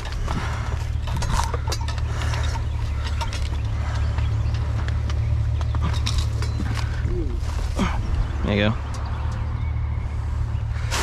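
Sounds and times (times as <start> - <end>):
junk rattling and clinking: 0.0 - 11.0
steady low rumble: 0.0 - 11.0.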